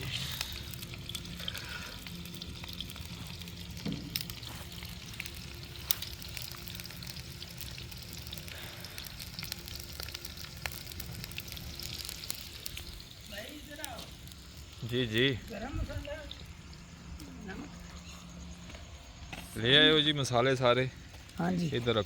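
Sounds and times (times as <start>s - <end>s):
onions sizzling in hot fat: 0.0s - 22.0s.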